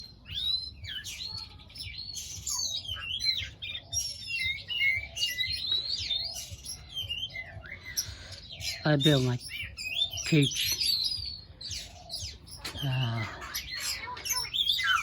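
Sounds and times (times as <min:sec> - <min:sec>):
caged birds chirping and whistling: 0:00.0 - 0:15.0.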